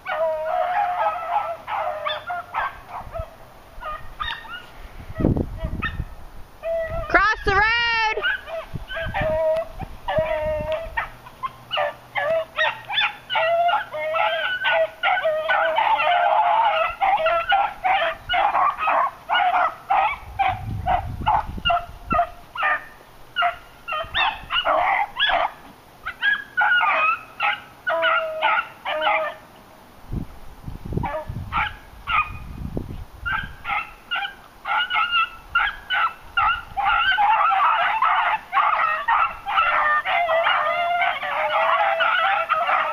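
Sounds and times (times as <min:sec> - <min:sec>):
beagles yelping and baying: 0:00.0 - 0:29.6, 0:31.0 - 0:32.5, 0:33.2 - 0:42.9.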